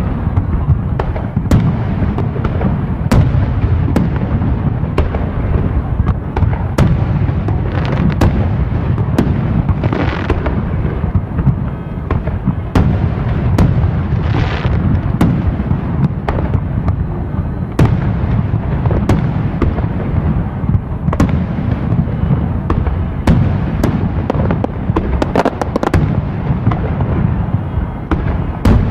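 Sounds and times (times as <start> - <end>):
firework bangs and pops: 0.0 - 28.9.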